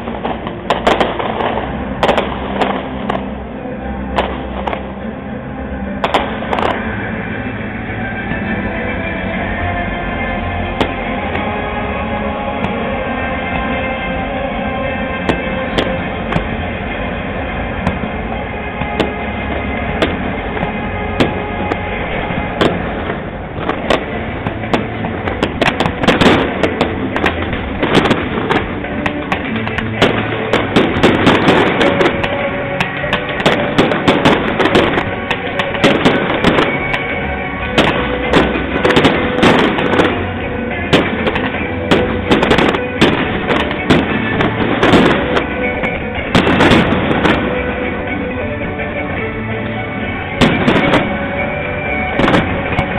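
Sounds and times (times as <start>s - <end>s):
fireworks bangs and cracks: 0.0s - 5.2s, 5.8s - 8.6s, 10.2s - 52.9s
fireworks rumble: 0.0s - 52.9s
music playing: 0.0s - 52.9s.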